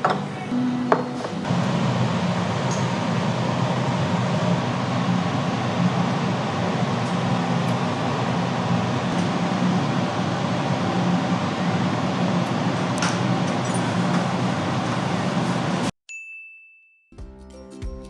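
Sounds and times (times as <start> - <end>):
low mechanical hum: 0.0 - 15.9
rushing noise: 0.0 - 15.9.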